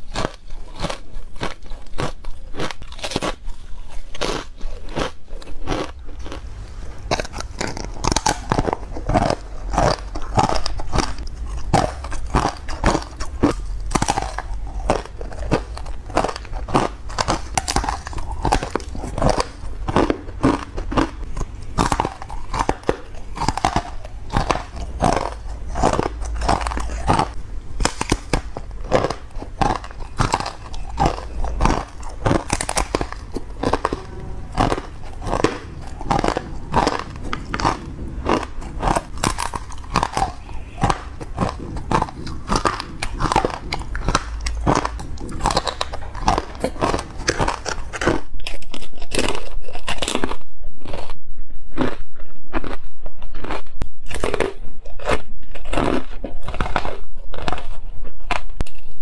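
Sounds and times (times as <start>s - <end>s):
crunching ice bites and chewing: 0.0s - 59.0s.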